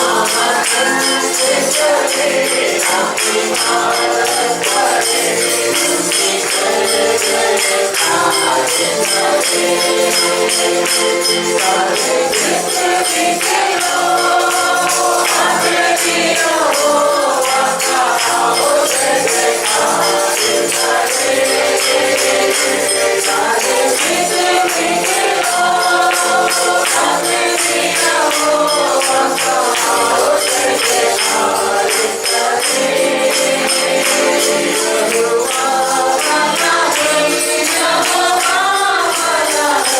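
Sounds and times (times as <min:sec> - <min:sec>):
group singing: 0:00.0 - 0:39.9
tambourine shaken in a beat: 0:00.0 - 0:39.9.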